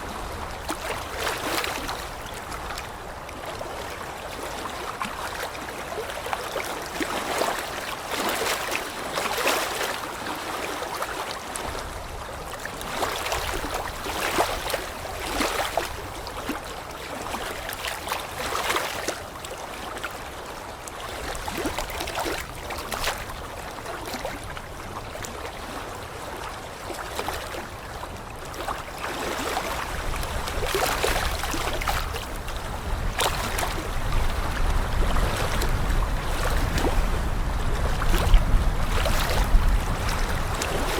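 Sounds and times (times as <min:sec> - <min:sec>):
steady water wash: 0:00.0 - 0:40.9
water splashing and lapping: 0:00.0 - 0:40.9.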